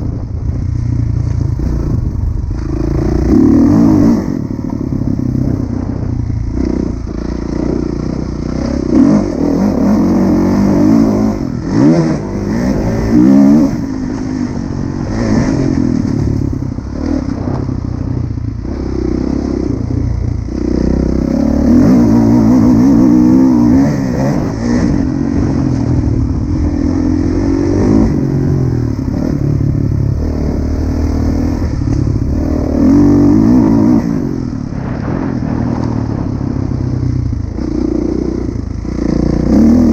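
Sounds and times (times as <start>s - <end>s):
motocross bike engine revving: 1.4s - 39.9s.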